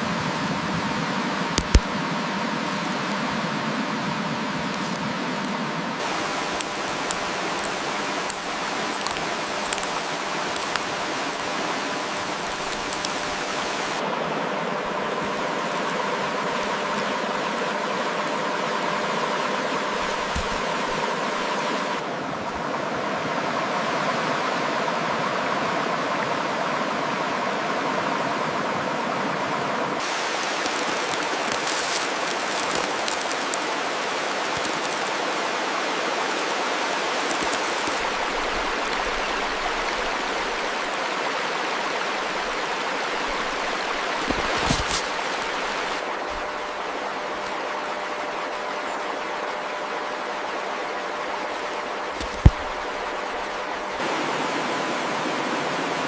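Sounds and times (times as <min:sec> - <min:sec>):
steady rushing noise: 0:00.0 - 0:56.0.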